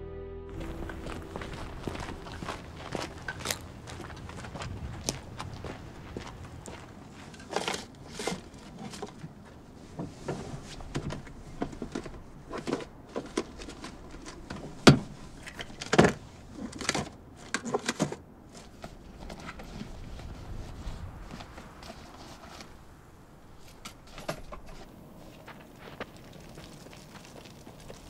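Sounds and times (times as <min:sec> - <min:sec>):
rustling: 0:00.6 - 0:28.0.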